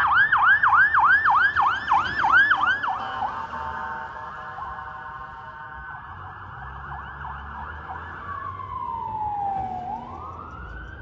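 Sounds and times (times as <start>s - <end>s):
fire truck siren yelp and wail: 0.0s - 11.0s
low engine and road rumble: 0.0s - 11.0s.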